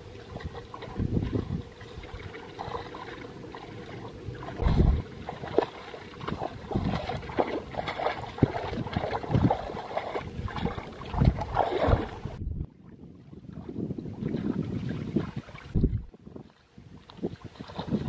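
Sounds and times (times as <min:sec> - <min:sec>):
muddy water sloshing and splashing: 0:00.0 - 0:18.0.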